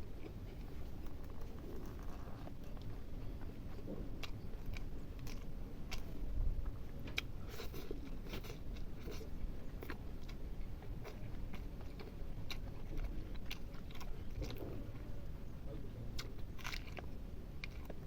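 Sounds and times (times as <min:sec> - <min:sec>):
person chewing crunchy food: 0:00.0 - 0:15.1, 0:16.1 - 0:18.0.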